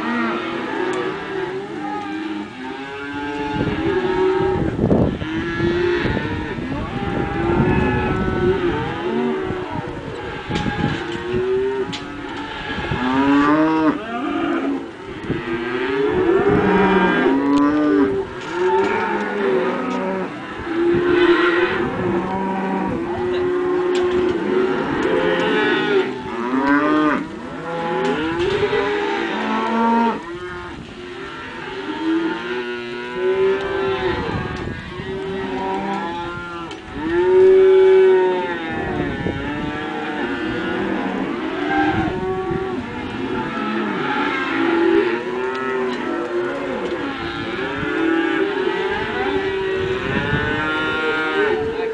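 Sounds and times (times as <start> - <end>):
cattle mooing: 0.0 - 51.9.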